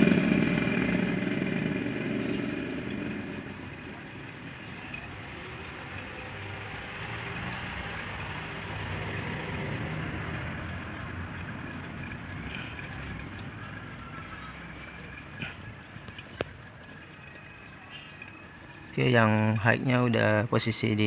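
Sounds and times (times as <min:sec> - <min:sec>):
refrigerant gas hissing: 0:00.0 - 0:19.8.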